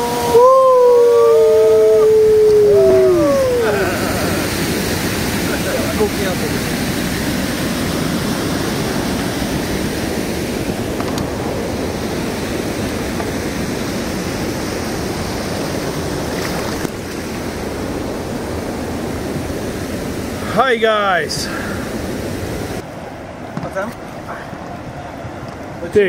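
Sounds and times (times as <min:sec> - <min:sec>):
fast river water rushing: 0:00.0 - 0:26.0.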